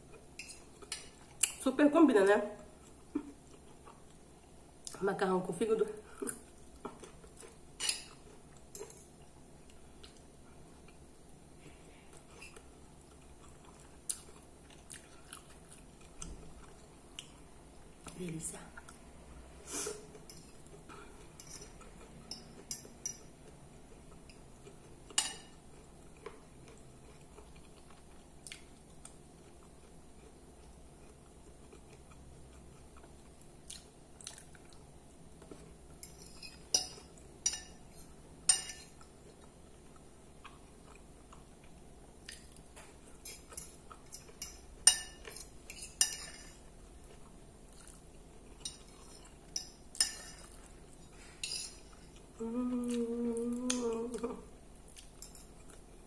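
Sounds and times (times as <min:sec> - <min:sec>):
soft chewing: 0:00.0 - 0:01.6, 0:02.6 - 0:05.0, 0:06.0 - 0:56.0.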